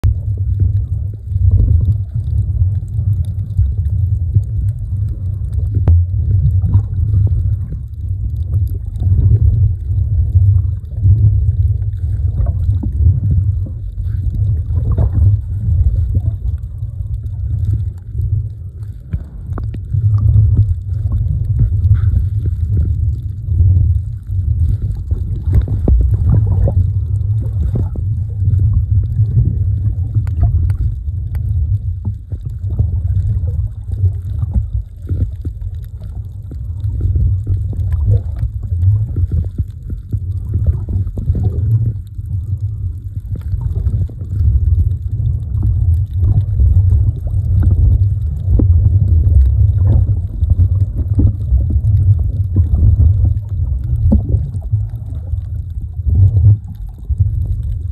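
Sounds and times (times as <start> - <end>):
crackles and clicks: 0.0 - 57.9
underwater rumble and sloshing: 0.0 - 57.9.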